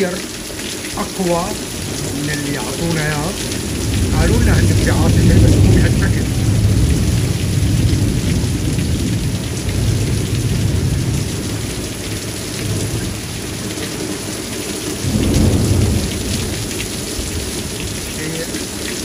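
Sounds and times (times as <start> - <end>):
heavy rain hissing: 0.0 - 19.0
thunder rumbling: 1.0 - 14.1, 15.0 - 19.0.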